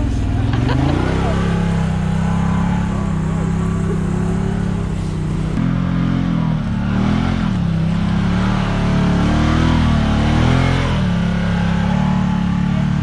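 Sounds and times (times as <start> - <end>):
engine idling: 0.0 - 13.0
engine revving: 0.0 - 13.0.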